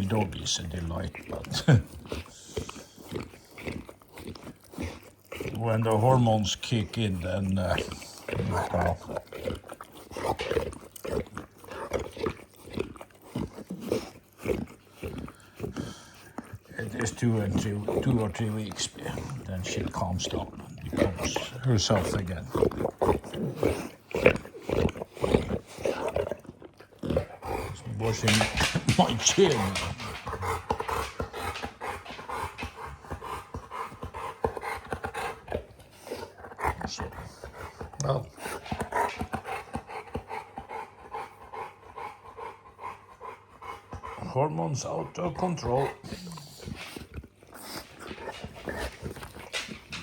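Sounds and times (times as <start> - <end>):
dog licking and snuffling: 0.0 - 50.0.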